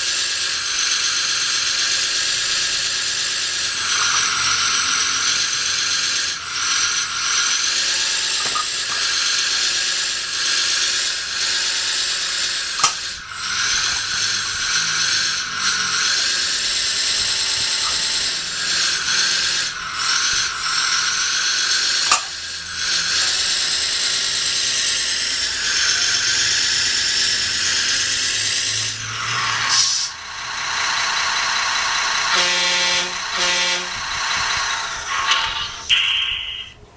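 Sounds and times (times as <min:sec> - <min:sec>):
toy excavator motors whirring: 0:00.0 - 0:36.9.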